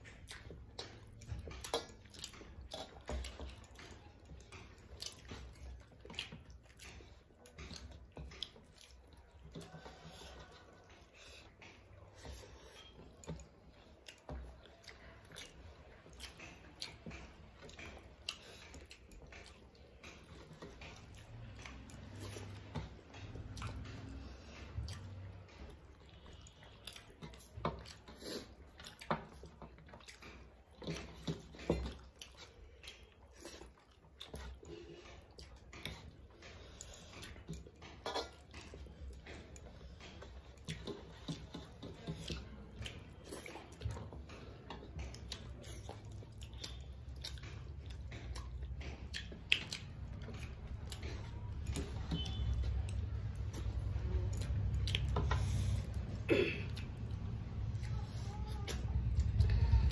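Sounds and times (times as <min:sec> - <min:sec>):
people chewing: 0:00.0 - 0:59.9.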